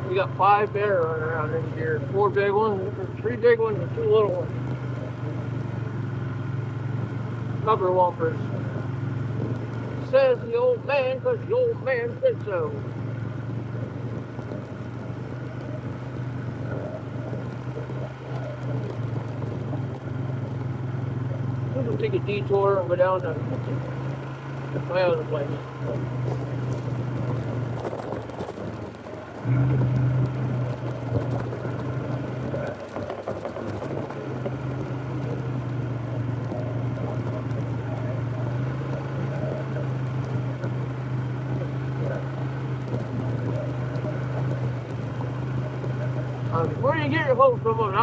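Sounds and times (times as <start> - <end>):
atv engine humming: 0.0 - 48.0.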